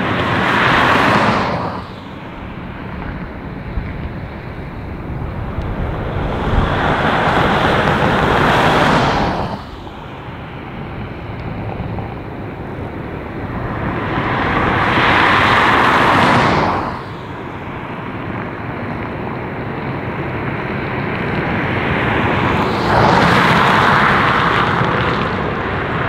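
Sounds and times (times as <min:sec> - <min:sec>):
jet engines at takeoff thrust: 0:00.0 - 0:26.0.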